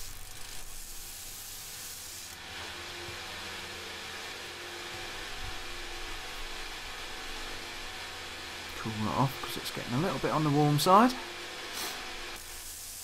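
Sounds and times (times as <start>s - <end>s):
grinder grinding steel hiss: 0.0s - 13.0s
grinder spinning freely whir: 0.0s - 13.0s.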